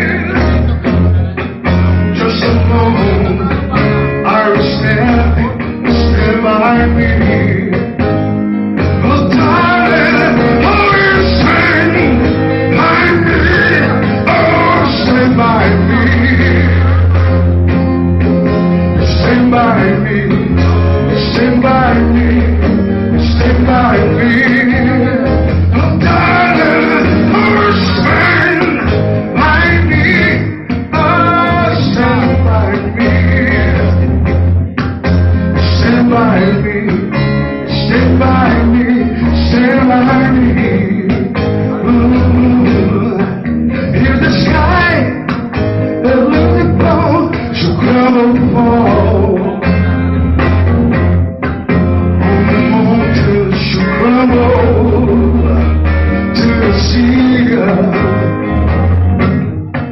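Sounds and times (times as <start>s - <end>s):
man singing into a microphone: 0.0s - 8.1s, 8.9s - 17.4s, 18.8s - 50.0s, 52.0s - 58.9s
electric guitars: 0.0s - 59.9s
pulsing bass line: 0.0s - 59.9s.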